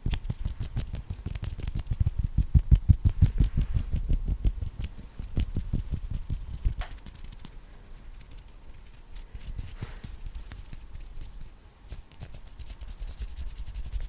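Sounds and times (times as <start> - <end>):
hands patting and rubbing: 0.0 - 14.0.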